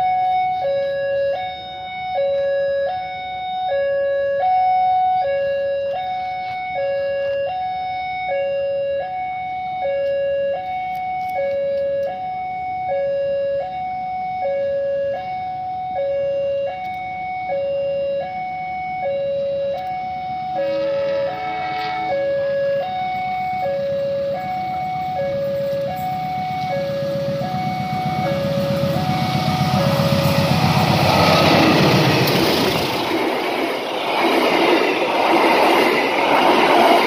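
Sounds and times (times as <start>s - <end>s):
two-tone electronic alarm: 0.0s - 37.0s.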